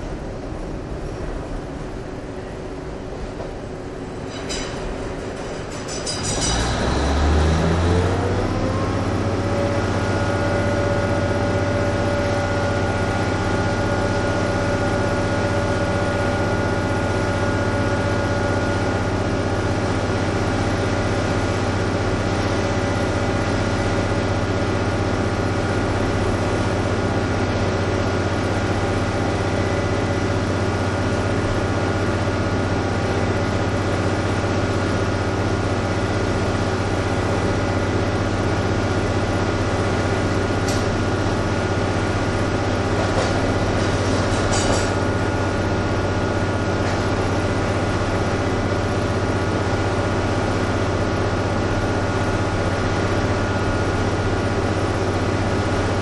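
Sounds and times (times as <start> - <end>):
diesel railcar engine drone: 0.0 - 56.0
high transmission whine: 0.0 - 56.0.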